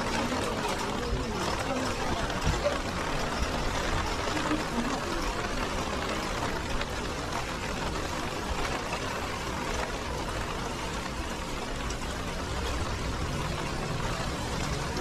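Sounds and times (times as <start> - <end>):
rain falling on wet street: 0.0 - 15.0.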